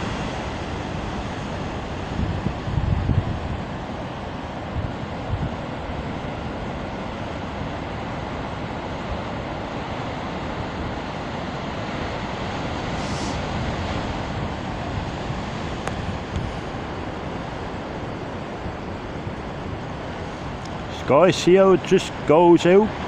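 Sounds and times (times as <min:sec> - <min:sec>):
wind rumbling on microphone: 0:00.0 - 0:21.1
ocean surf on rocky shore: 0:00.0 - 0:23.0.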